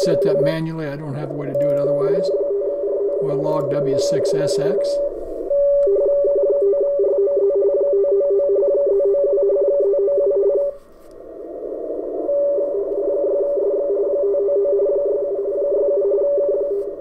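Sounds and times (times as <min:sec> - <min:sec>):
radioteletype two-tone signal: 0:00.0 - 0:17.0
receiver hiss: 0:00.0 - 0:17.0.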